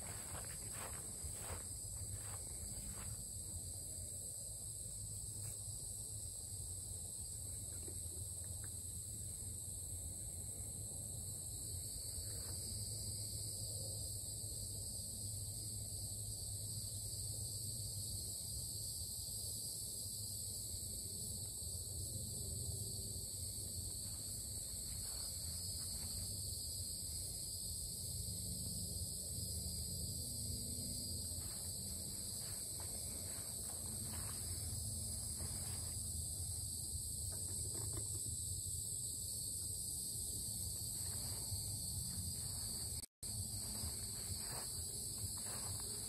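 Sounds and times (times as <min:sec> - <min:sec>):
high-pitched insect chorus: 0:00.0 - 0:46.0.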